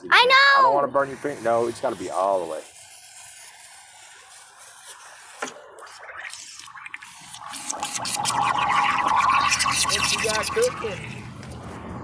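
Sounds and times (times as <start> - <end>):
firework hissing and crackling: 0.4 - 11.8.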